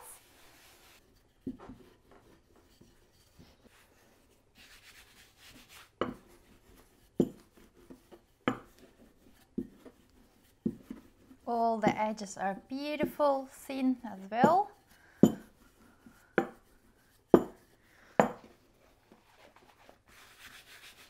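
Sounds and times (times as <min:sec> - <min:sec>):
rolling pin rubbing dough: 0:00.1 - 0:21.0.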